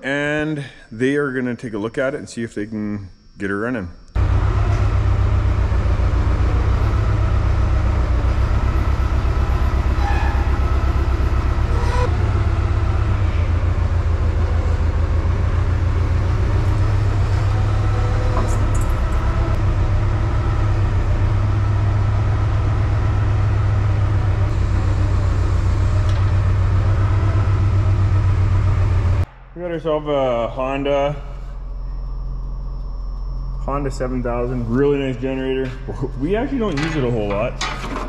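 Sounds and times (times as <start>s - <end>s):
vehicle engine droning: 4.2s - 38.0s.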